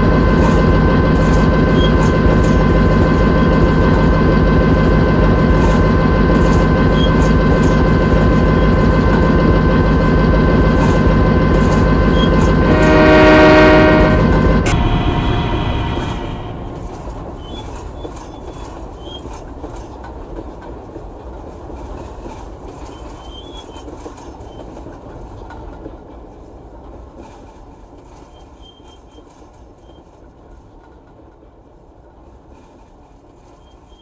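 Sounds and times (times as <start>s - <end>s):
train rumbling past: 0.0s - 34.0s
wheels clattering on rails: 0.0s - 34.0s.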